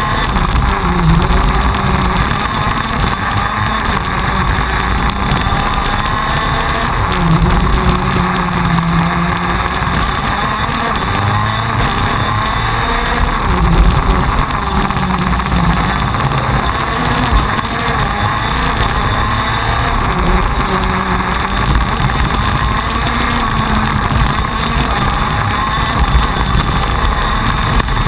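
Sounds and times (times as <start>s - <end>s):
kart engine running at race speed: 0.0s - 28.0s.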